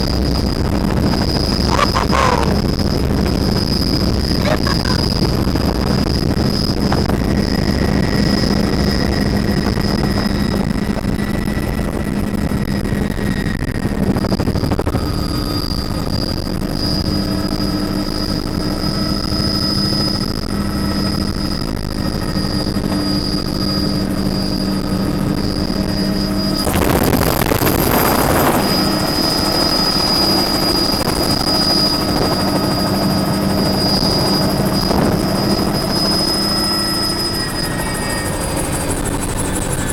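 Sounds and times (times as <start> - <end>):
helicopter rotor and engine: 0.0 - 39.9
high whine: 0.0 - 39.9.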